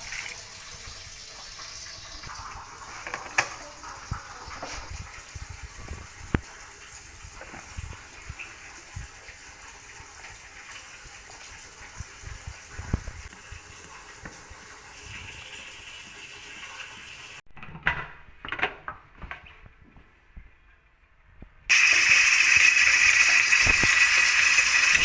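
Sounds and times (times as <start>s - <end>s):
tap water running: 0.0s - 17.4s, 21.7s - 25.0s.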